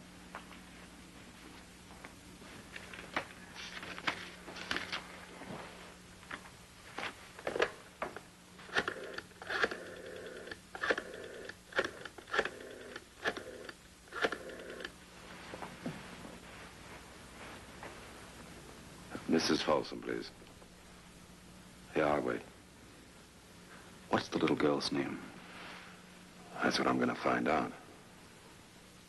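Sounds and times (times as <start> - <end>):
faint whirr: 0.0 - 29.0.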